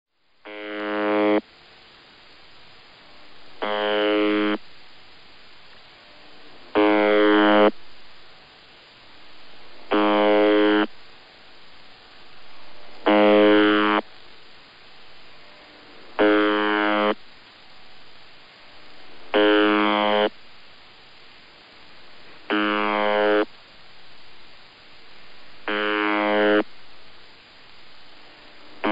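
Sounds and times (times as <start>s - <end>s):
harsh radio buzz: 0.5s - 23.6s, 24.7s - 27.6s, 28.2s - 28.9s
radio static: 0.5s - 28.9s.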